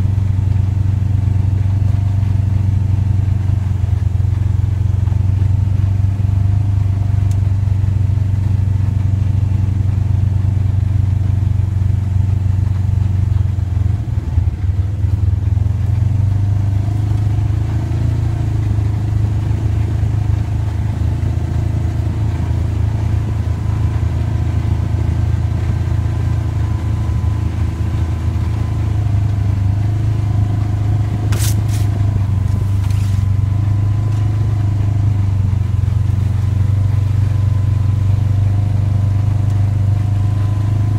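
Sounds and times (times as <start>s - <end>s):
utility vehicle engine droning: 0.0s - 40.9s.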